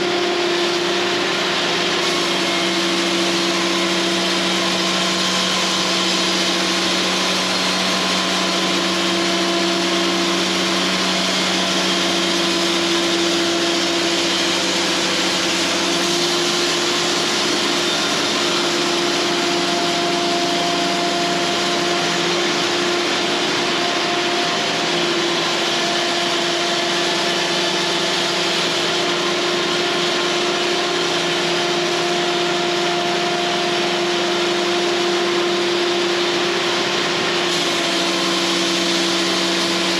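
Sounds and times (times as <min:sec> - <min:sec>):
bandsaw blade sawing wood: 0:00.0 - 0:39.9.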